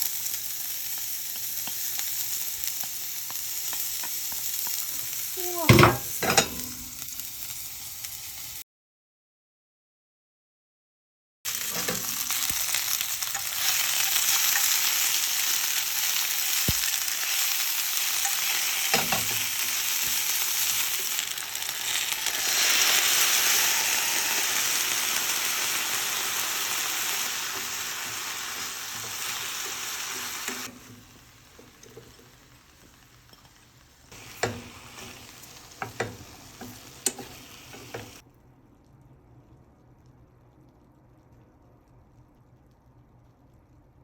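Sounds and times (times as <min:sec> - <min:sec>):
food sizzling in a hot pan: 0:00.0 - 0:08.6, 0:11.5 - 0:38.2.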